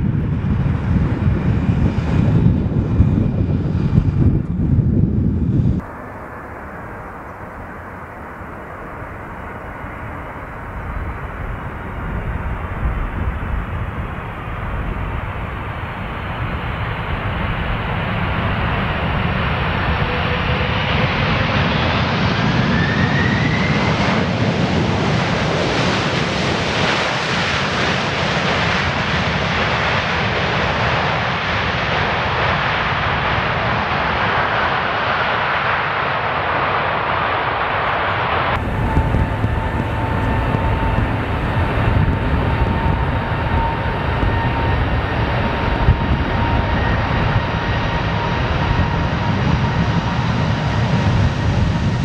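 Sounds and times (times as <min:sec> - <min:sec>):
jet airliner passing at takeoff: 0:00.0 - 0:52.0.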